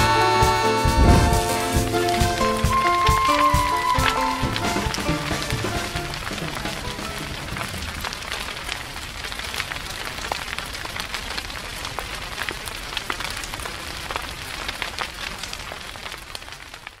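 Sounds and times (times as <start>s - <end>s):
brush fire hissing and crackling: 0.6s - 17.0s.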